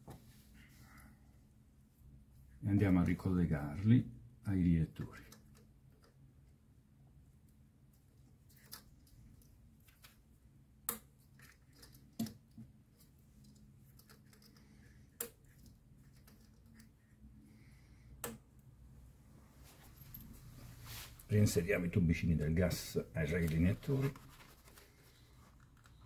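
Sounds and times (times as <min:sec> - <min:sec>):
faint low hum: 0:00.2 - 0:26.0.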